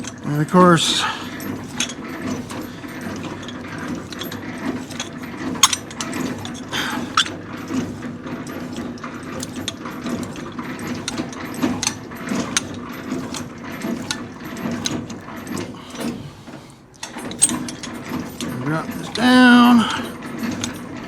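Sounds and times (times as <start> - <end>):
hand crank gearbox clicks and clanks: 0.0 - 21.0.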